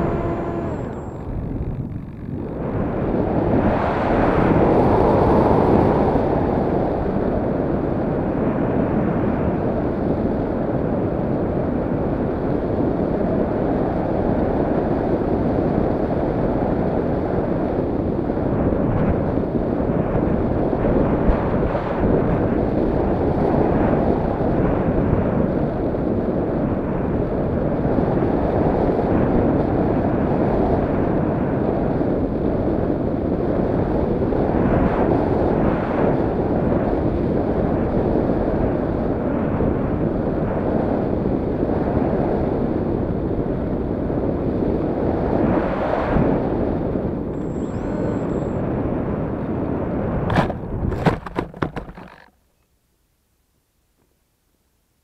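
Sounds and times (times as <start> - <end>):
wind rushing past camera: 0.0 - 52.3.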